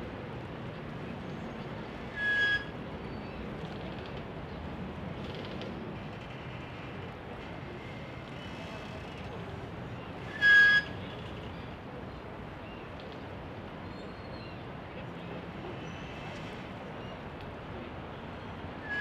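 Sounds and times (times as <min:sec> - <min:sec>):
city traffic hum: 0:00.0 - 0:19.0.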